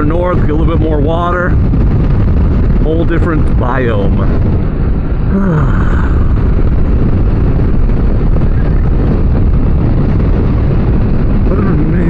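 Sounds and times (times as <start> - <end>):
motorcycle engine running: 0.0 - 12.0
wind rushing on microphone: 0.0 - 12.0.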